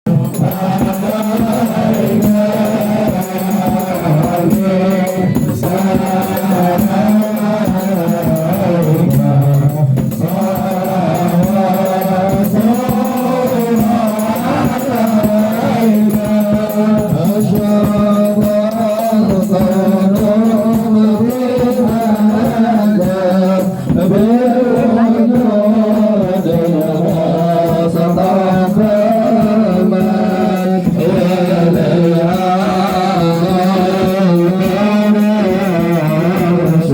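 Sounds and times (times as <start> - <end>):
hand drum beats: 0.1 - 36.9
person singing devotional song: 0.1 - 36.9.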